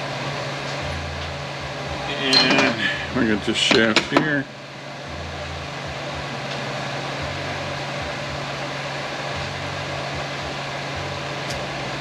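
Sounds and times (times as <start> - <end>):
machine hum with airy hiss: 0.0 - 12.0.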